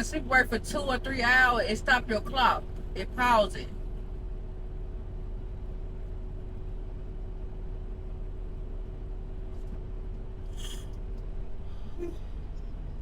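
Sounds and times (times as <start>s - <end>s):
faint hum: 0.0s - 13.0s
truck engine rumbling: 0.0s - 13.0s.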